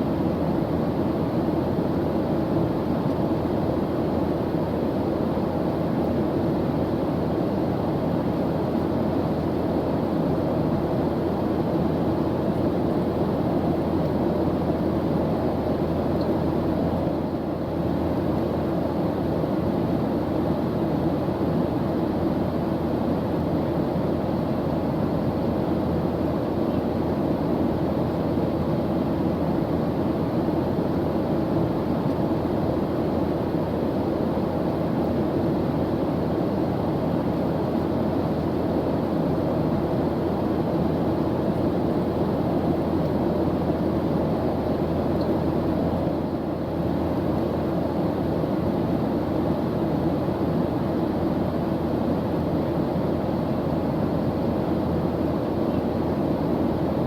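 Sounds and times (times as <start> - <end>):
airplane engine drone: 0.0 - 57.0.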